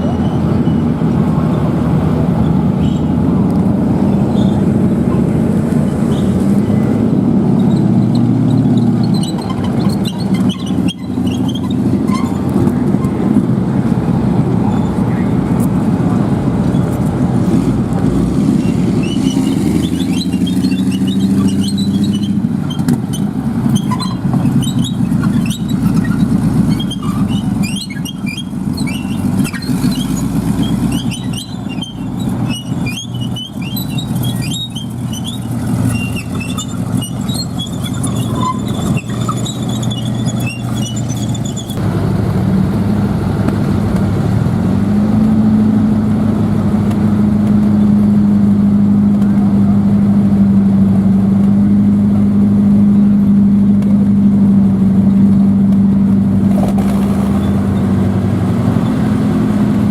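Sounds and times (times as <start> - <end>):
tank tracks squealing: 0.0 - 41.9, 46.3 - 59.9
tank engine rumble: 0.0 - 59.9.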